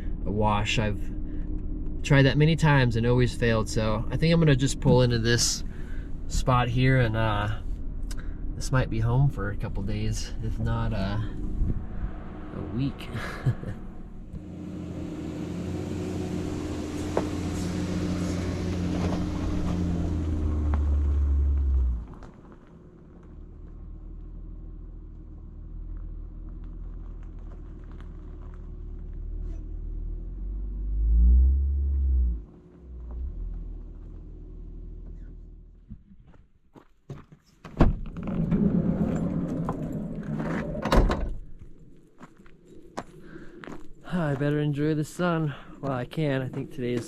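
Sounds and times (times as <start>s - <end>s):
van engine running: 0.0s - 35.8s, 43.0s - 47.0s.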